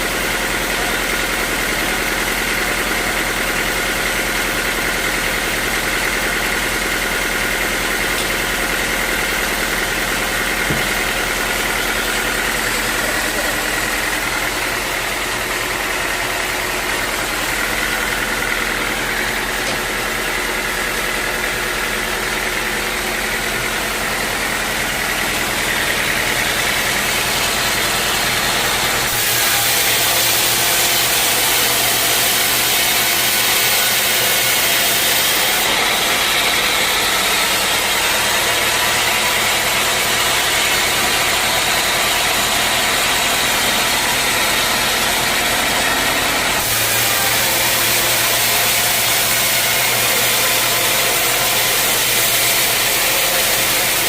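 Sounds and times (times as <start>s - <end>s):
motor hum: 7.8s - 21.6s, 23.3s - 54.0s.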